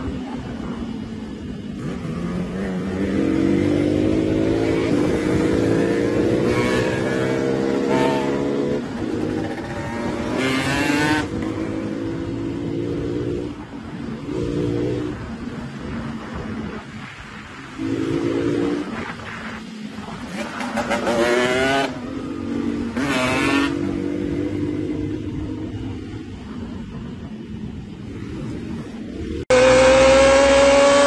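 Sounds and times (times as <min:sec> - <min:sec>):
motorcycle engine revving: 0:01.6 - 0:16.8, 0:17.7 - 0:27.2, 0:28.0 - 0:31.0.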